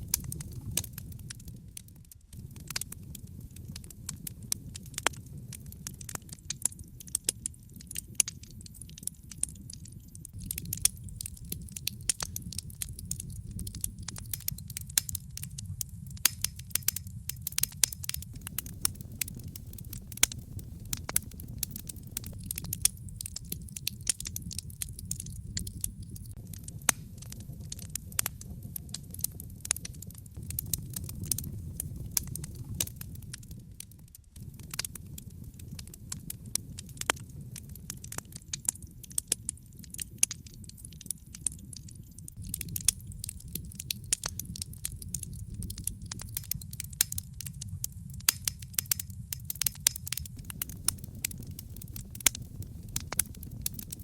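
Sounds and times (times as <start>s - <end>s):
fire crackling and popping: 0.0s - 54.0s
low rumble of flame: 0.0s - 54.0s.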